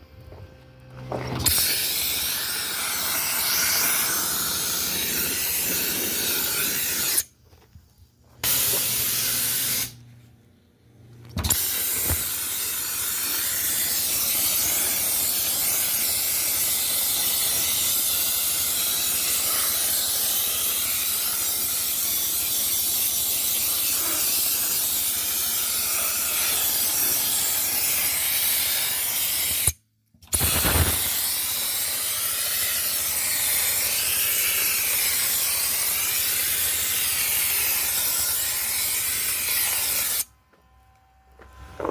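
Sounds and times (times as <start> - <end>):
dry-ice blasting gun hissing: 1.4 - 7.3, 8.4 - 10.0, 11.4 - 40.3.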